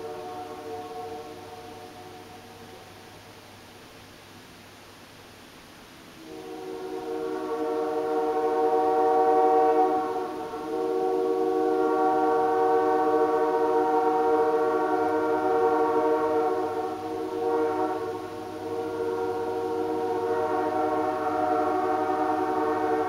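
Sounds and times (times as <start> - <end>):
locomotive air horn chord: 0.0 - 3.3, 6.2 - 23.0.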